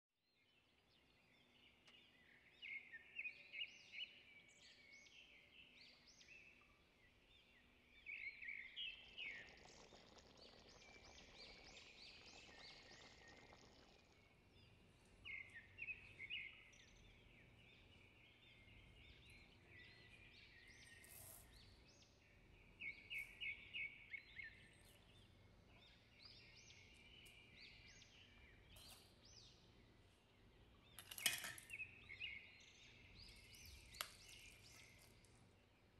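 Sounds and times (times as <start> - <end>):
small birds chirping: 0.3 - 35.9.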